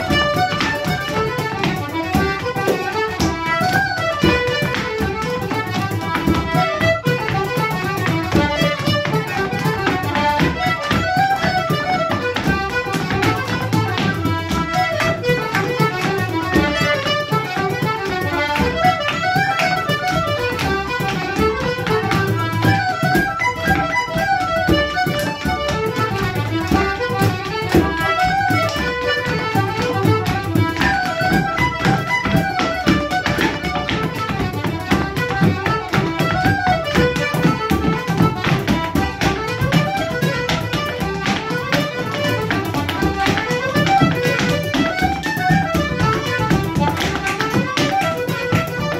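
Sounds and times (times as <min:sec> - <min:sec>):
button accordion dance tune: 0:00.0 - 0:48.9
shoes tapping on wooden floor: 0:00.0 - 0:48.9.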